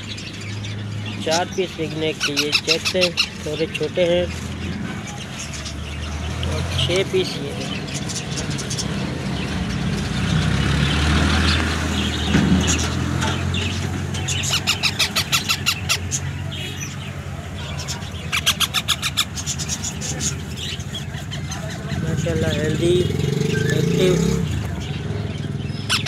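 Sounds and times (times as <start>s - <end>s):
parakeet chicks calling: 0.0s - 26.0s.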